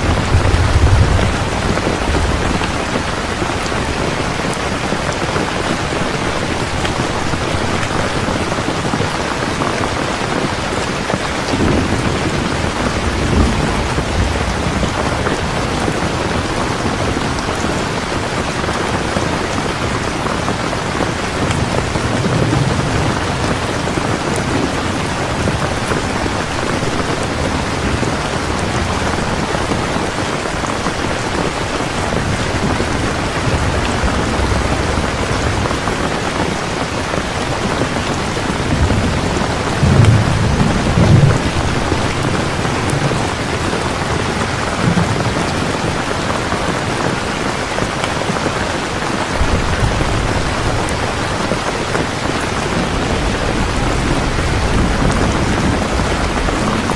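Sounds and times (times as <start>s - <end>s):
strong rain: 0.0s - 56.9s
thunder rumbling: 0.0s - 56.9s.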